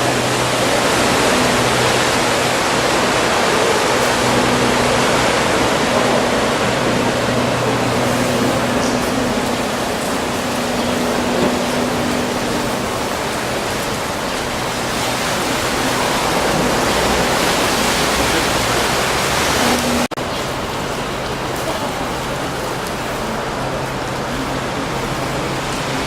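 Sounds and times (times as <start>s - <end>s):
low engine hum: 0.0s - 26.0s
water rushing: 0.0s - 26.0s
wind: 0.0s - 26.0s.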